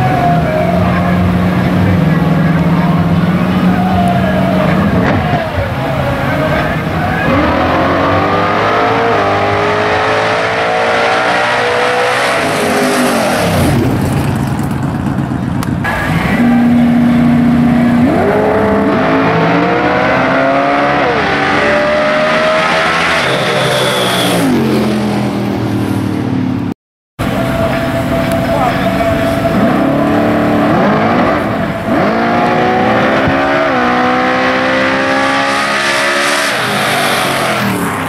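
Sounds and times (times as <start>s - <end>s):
drag racing car engines revving: 0.0s - 38.0s.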